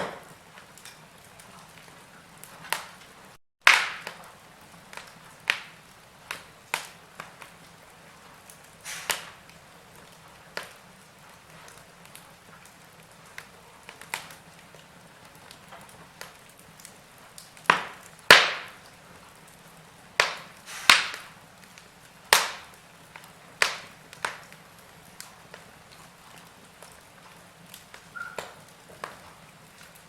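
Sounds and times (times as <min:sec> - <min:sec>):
faint steady hiss: 0:00.0 - 0:30.0
wood fire popping and snapping: 0:00.0 - 0:30.0.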